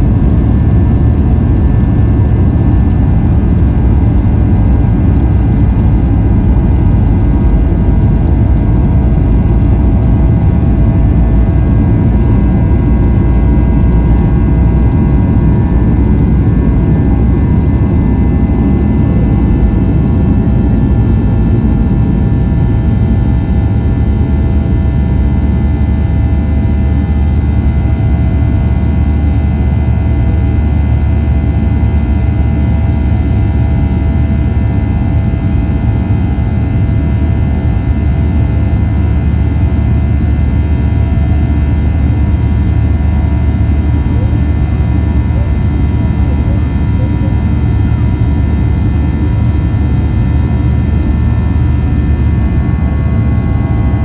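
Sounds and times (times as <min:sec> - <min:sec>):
jet engine whine: 0:00.0 - 0:54.0
jet engines rumbling in cabin: 0:00.0 - 0:54.0.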